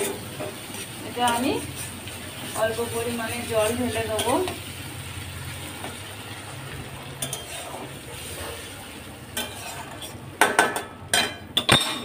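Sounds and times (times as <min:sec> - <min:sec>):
metal spatula scraping a pan: 0:00.0 - 0:04.6, 0:05.8 - 0:10.9
soft steady sizzle: 0:00.0 - 0:11.6.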